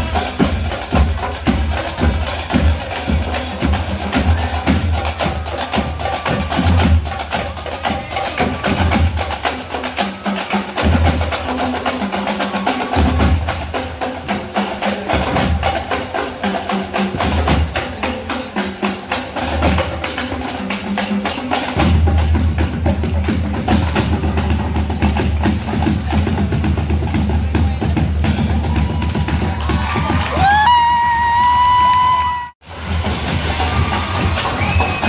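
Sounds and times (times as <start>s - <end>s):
fast drum strokes: 0.0s - 31.1s, 32.6s - 35.0s
marching band playing: 0.0s - 35.0s.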